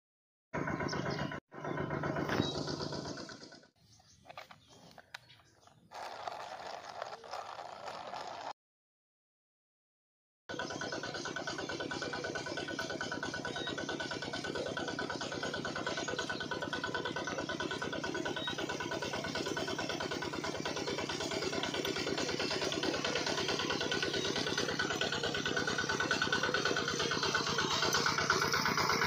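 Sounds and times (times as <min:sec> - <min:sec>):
diesel water pump engine running: 0:00.6 - 0:08.5, 0:10.5 - 0:29.0.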